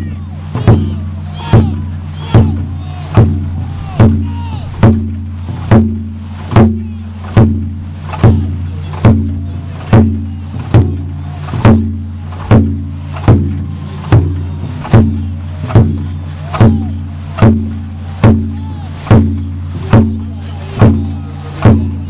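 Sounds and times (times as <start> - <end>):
drum beating: 0.0 - 22.0
low hum: 0.0 - 22.0.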